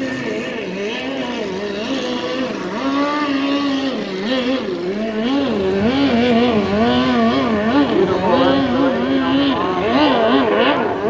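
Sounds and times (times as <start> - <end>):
boat engine revving: 0.0 - 11.0.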